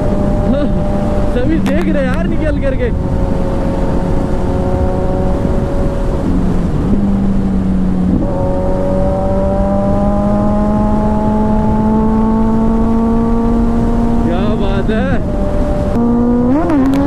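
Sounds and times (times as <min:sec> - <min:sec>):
motorcycle engine accelerating: 0:00.0 - 0:17.0
wind rushing: 0:00.0 - 0:17.0.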